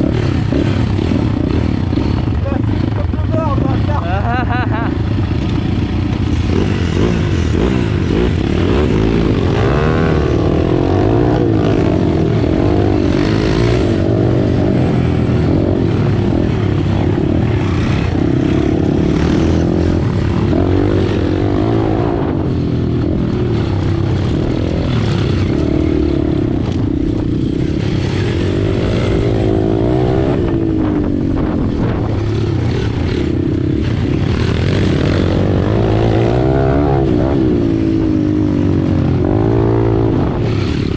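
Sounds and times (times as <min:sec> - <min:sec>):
small motorcycle engine revving: 0:00.0 - 0:40.9
steady rushing noise: 0:00.0 - 0:40.9.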